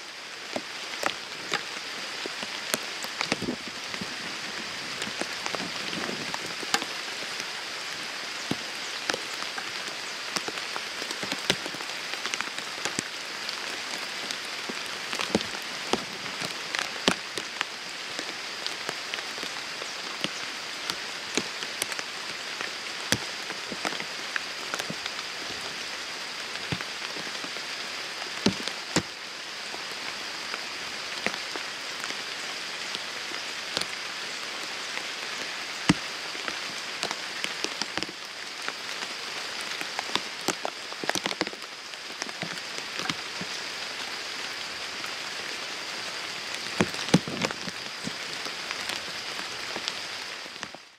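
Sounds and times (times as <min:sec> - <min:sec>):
rain falling: 0:00.0 - 0:50.9
raindrops tapping: 0:00.4 - 0:29.2, 0:35.8 - 0:44.0, 0:46.6 - 0:50.9.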